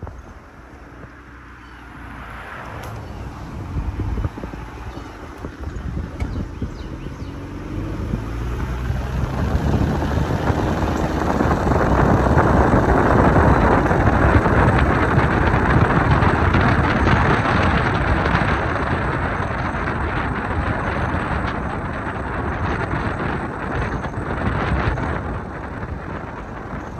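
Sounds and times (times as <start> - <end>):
car engine: 0.0 - 26.9
tyre noise: 0.0 - 26.9
wind noise: 0.0 - 26.9.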